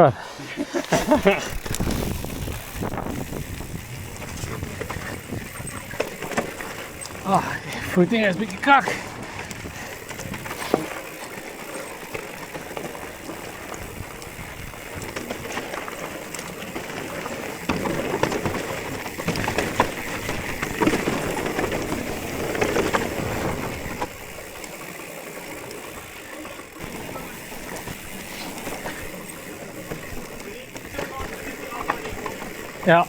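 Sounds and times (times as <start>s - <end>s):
bike tyres rumbling on dirt: 0.4s - 33.0s
bike chain and frame rattling: 0.5s - 33.0s.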